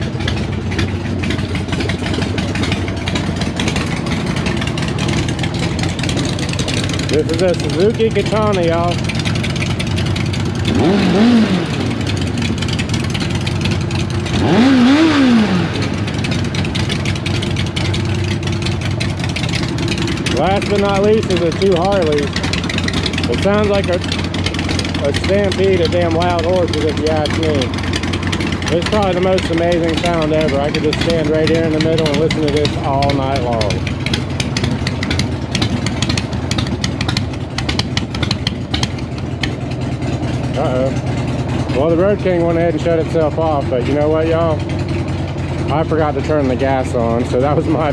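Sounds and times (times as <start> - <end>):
motorcycle engine revving: 0.0 - 47.9
motorcycles idling: 0.0 - 47.9.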